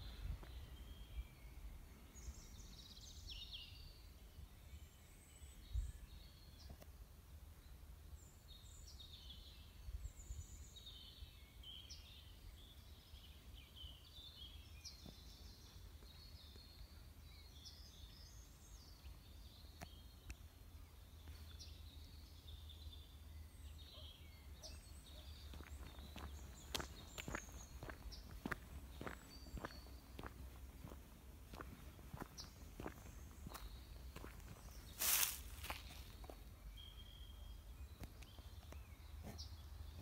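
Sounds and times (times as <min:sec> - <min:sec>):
faint birds chirping: 0:00.0 - 0:40.0.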